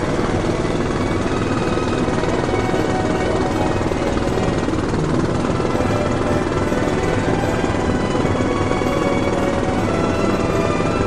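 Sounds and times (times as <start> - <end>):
helicopter rotor chop: 0.0 - 11.0.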